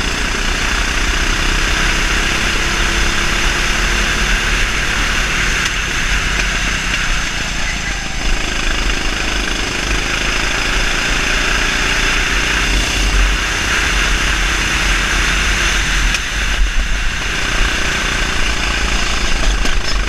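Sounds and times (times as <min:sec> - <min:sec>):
kart engine running hard: 0:00.0 - 0:20.0.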